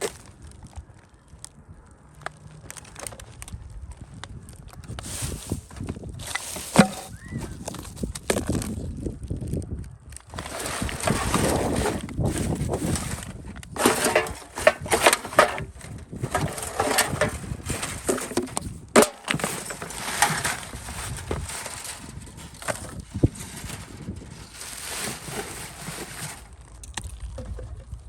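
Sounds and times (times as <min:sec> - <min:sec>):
crunching and scraping: 0:00.0 - 0:28.0.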